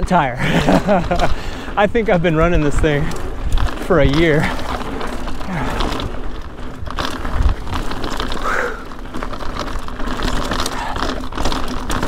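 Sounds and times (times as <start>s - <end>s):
tires crunching over rocky dirt: 0.0s - 12.0s
wind rumble on microphone: 0.4s - 12.0s
bike freewheel clicking: 0.6s - 12.0s.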